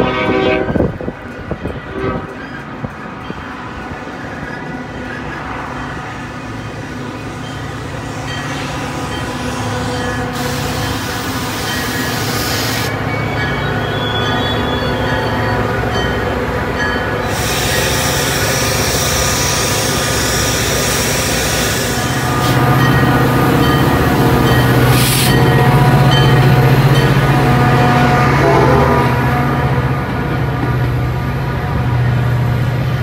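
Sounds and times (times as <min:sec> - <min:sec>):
wheel and rail noise: 0:00.0 - 0:33.0.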